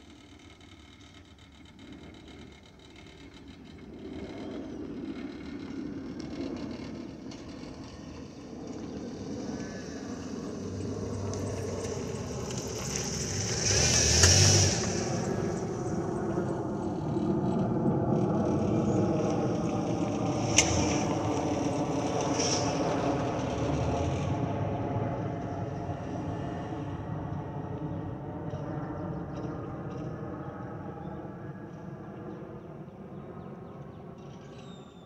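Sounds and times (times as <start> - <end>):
jet engines roaring overhead: 3.4 - 35.0.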